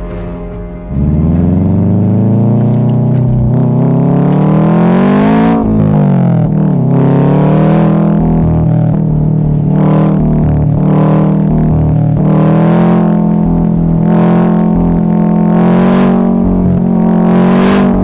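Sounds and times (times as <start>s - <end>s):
car engine revving: 0.8s - 18.0s.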